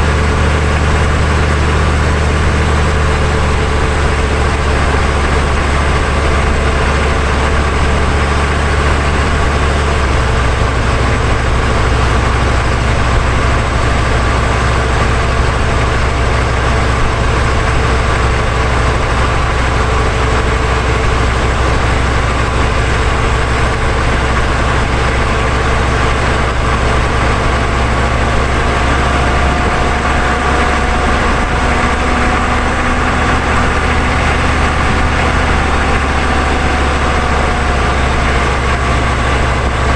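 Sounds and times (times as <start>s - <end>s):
road rush: 0.0s - 39.9s
truck engine drone: 0.0s - 39.9s.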